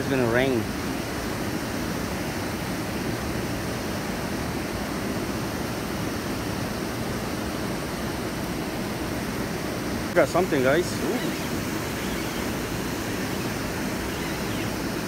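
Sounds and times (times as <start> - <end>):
river water rushing over dam: 0.0 - 15.0.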